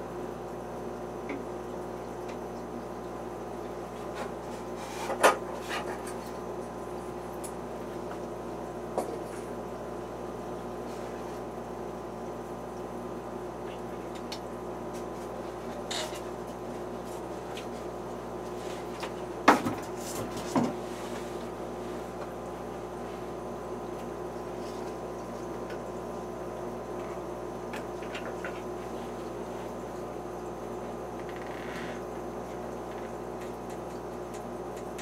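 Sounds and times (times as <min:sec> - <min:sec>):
aquarium equipment humming: 0:00.0 - 0:35.0.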